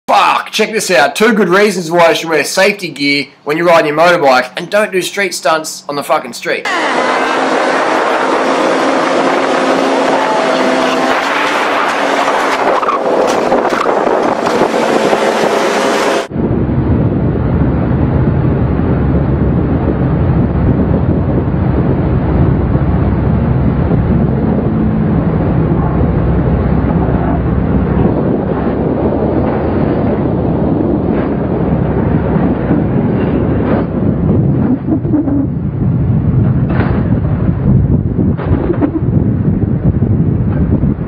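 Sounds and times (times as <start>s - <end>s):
heavy low rumble: 6.7s - 41.0s.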